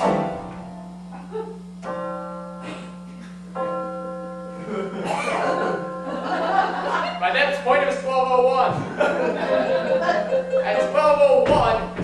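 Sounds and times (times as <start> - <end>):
keyboard playing sustained chords: 0.0 - 11.5
steady low hum: 0.0 - 12.0.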